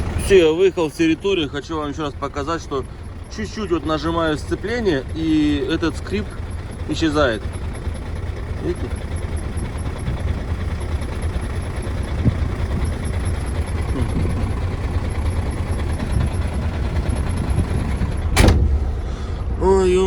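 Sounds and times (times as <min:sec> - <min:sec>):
engine squeak: 0:00.0 - 0:20.0
truck diesel engine running: 0:00.0 - 0:20.0.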